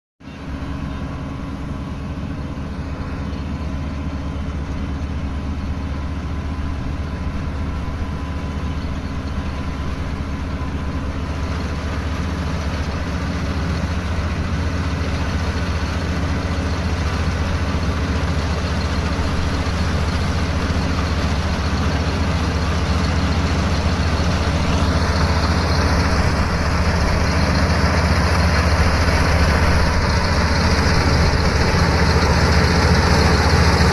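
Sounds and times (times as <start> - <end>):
harvester engine humming: 0.3 - 33.9
rough mechanical noise: 0.4 - 33.9.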